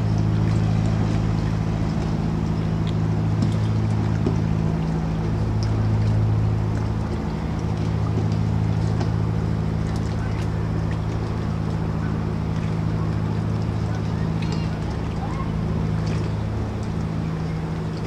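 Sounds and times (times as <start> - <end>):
motorboat engine humming: 0.0 - 18.0.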